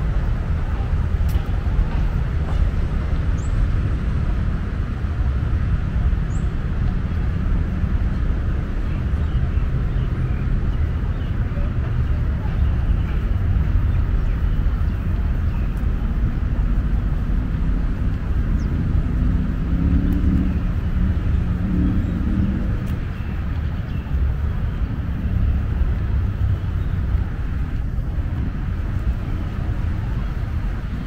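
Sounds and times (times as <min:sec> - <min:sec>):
distant road traffic rumble: 0:00.0 - 0:31.0.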